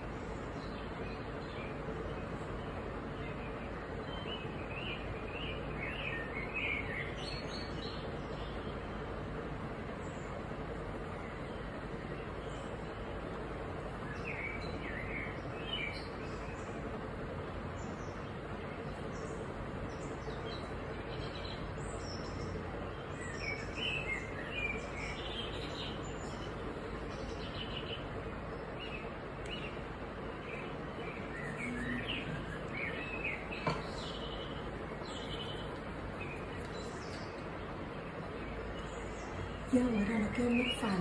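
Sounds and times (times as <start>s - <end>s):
birds chirping: 0.0s - 41.0s
room noise hiss: 0.0s - 41.0s.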